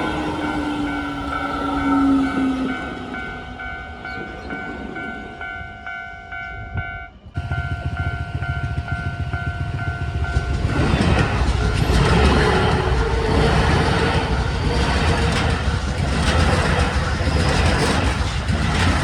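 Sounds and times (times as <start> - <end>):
railway crossing alarm ringing: 0.0 - 19.0
train rumble: 0.0 - 19.0.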